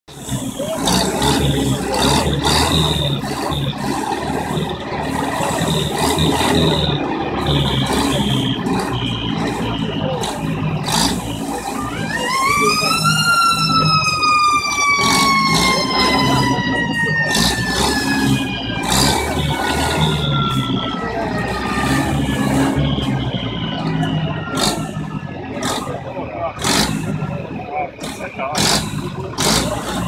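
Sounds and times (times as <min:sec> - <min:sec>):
tractor engine running: 0:00.1 - 0:30.0
siren winding up and down: 0:00.3 - 0:27.5.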